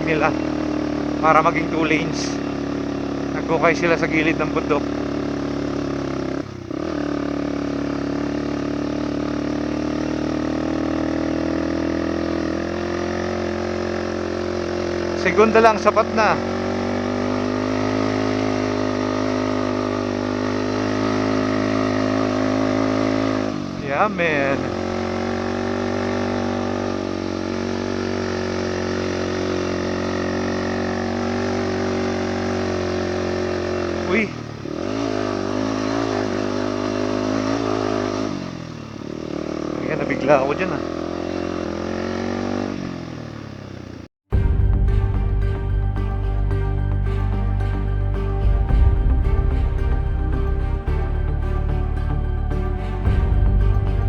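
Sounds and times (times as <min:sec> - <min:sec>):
motorcycle engine under throttle: 0:00.0 - 0:44.6.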